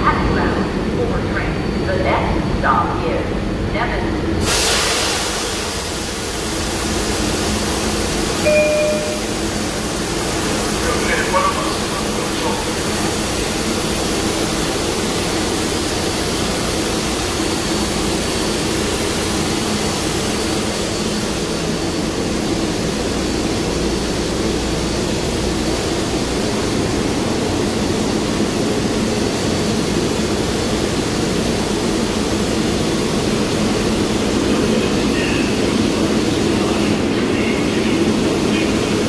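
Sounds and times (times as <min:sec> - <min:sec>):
subway train whirring hum: 0:00.0 - 0:39.0.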